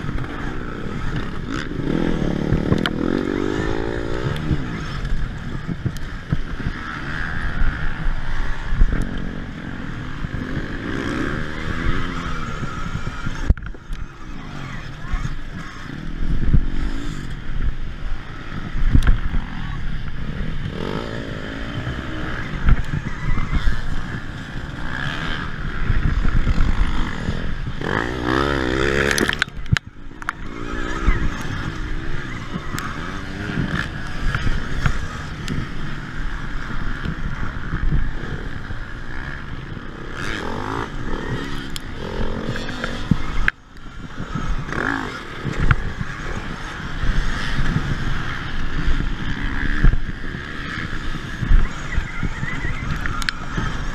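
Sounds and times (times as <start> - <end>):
motorcycle engines revving: 0.0 - 53.9
wind and rumble from riding: 0.0 - 53.9.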